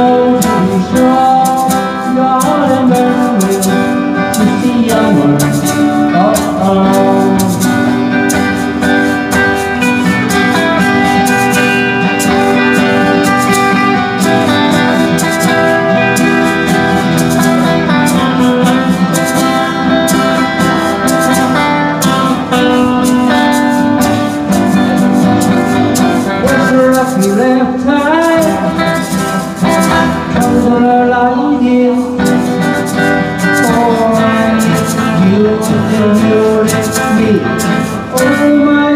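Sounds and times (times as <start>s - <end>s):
live band playing pop song: 0.0s - 38.9s.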